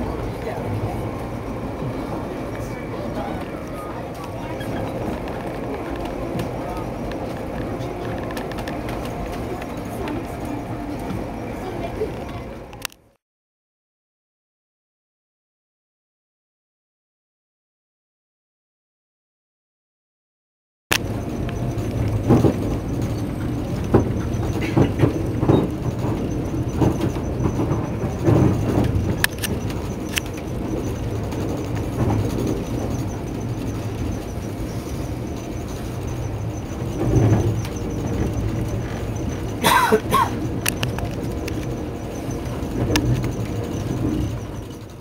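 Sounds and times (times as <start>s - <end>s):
wheels clattering on track: 0.0s - 12.9s, 20.9s - 45.0s
train rumbling inside coach: 0.0s - 13.2s, 20.9s - 45.0s.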